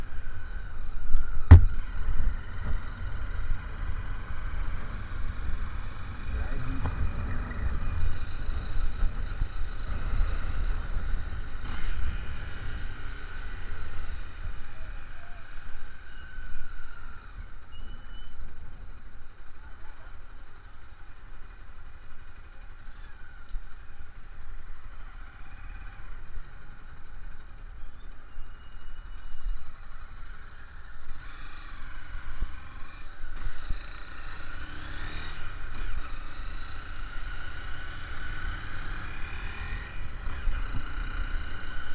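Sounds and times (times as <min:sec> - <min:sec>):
vehicle rumble: 0:00.0 - 0:41.9.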